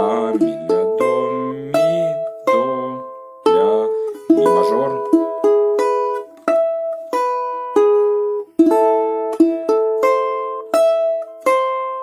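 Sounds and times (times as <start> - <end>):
balalaika plucked arpeggio: 0.0 - 12.0.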